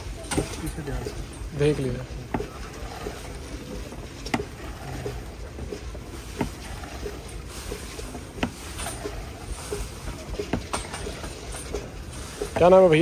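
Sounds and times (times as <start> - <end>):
paddle sweeping boiling syrup: 0.8 - 13.0.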